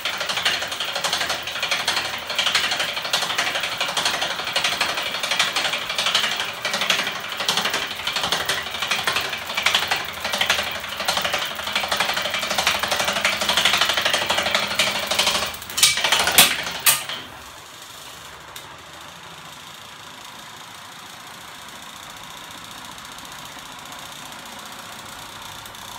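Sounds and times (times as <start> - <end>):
rapid mechanical clatter: 0.0 - 25.9.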